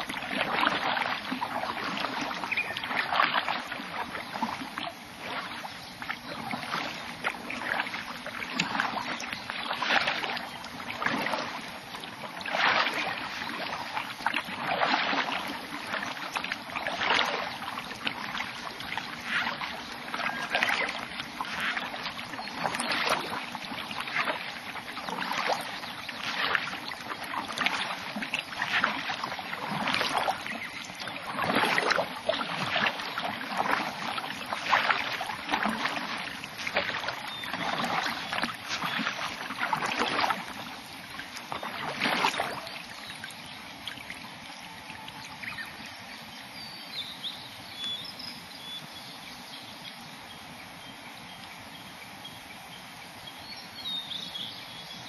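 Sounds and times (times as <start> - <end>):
kayak paddle splashing: 0.0 - 48.0.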